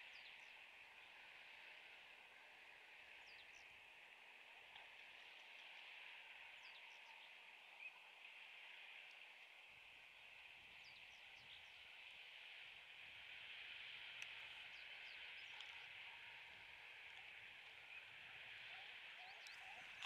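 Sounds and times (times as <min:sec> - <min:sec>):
high outdoor hiss: 0:00.0 - 0:20.0.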